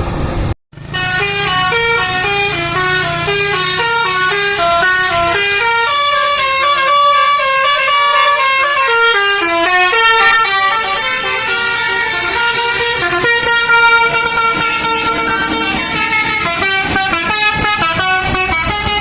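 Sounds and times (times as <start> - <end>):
multi-tone bus air horn tune: 0.8 - 19.0.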